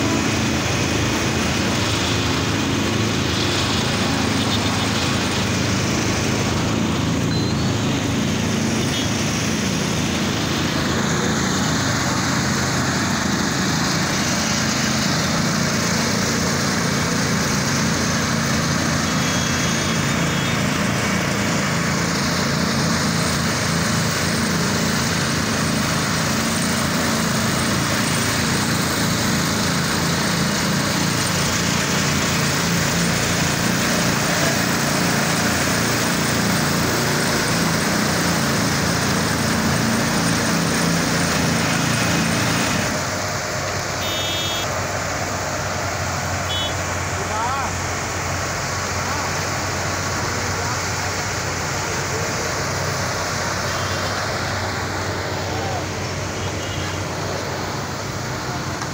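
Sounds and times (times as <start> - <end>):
diesel engine running steadily: 0.0 - 58.9.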